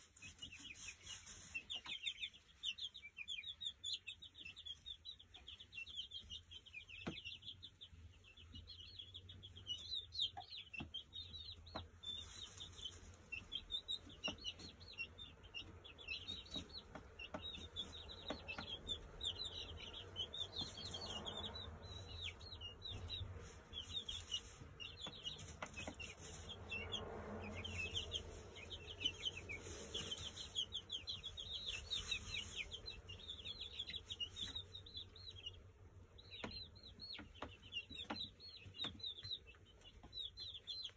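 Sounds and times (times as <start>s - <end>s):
young chickens peeping: 0.0s - 40.9s.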